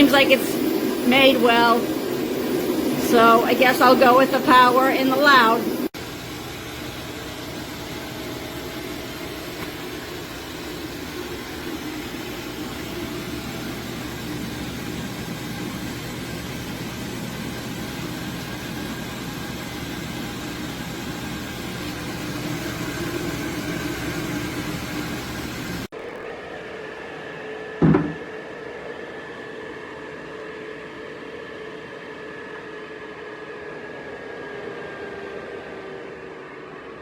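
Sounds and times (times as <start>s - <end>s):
inline duct fan running: 0.0s - 37.0s.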